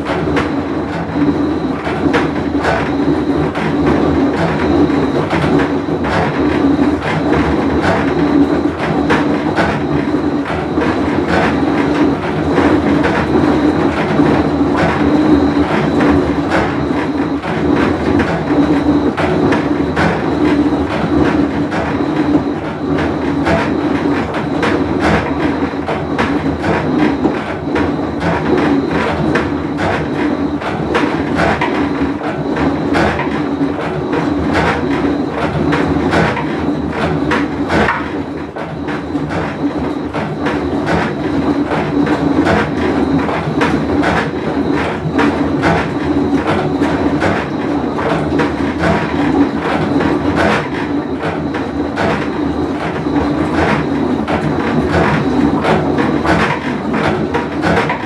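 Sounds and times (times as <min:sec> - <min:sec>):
washing machine rattling: 0:00.0 - 0:58.0.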